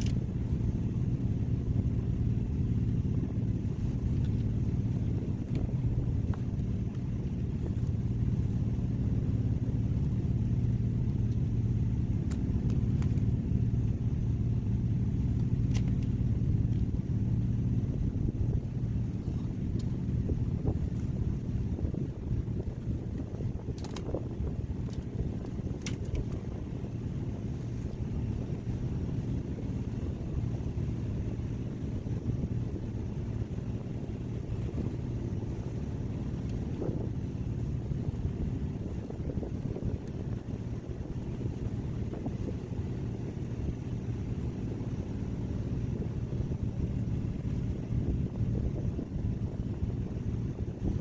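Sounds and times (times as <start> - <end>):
boat engine running: 0.0 - 51.0.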